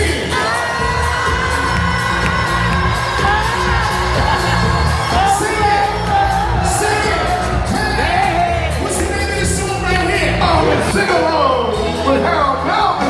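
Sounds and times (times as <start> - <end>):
live soul band playing: 0.0 - 13.0
person singing: 0.0 - 13.0.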